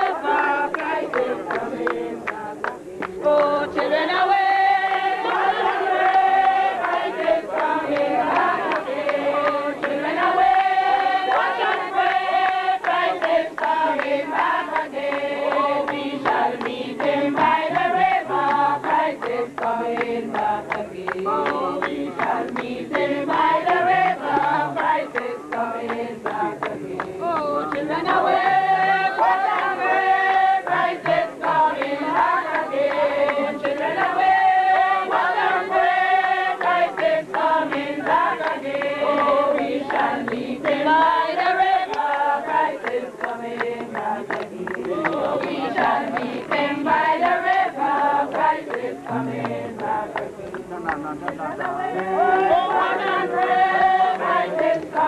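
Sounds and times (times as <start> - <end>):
many voices singing a hymn: 0.0 - 55.0.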